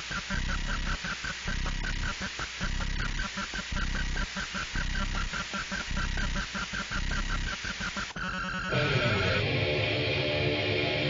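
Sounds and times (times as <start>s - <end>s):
harsh noise music pulsing: 0.0s - 11.0s.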